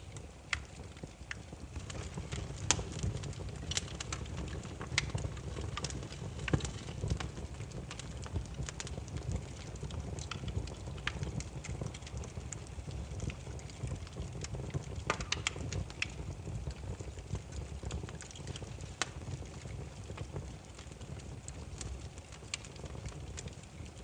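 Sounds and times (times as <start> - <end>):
firewood crackling and popping: 0.0 - 24.0
low rumble of flames: 0.0 - 24.0.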